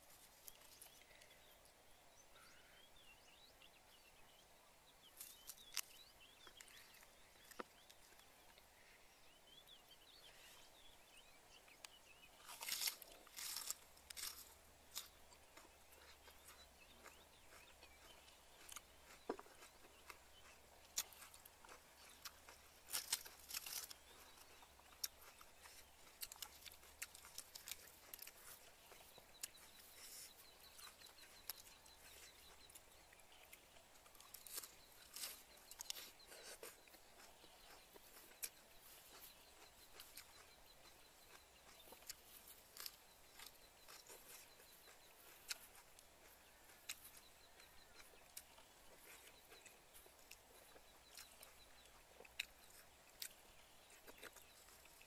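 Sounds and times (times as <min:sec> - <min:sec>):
crunching crisp lettuce: 0:05.1 - 0:08.4, 0:12.3 - 0:55.0.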